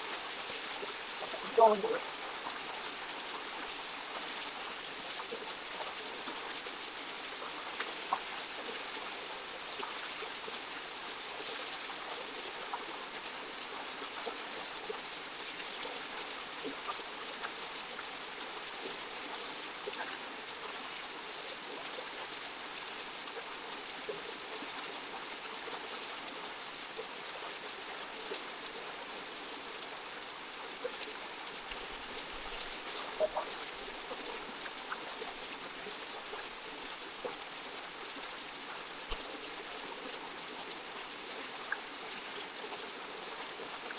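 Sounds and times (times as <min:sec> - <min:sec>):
water rushing over rocks: 0:00.0 - 0:43.9.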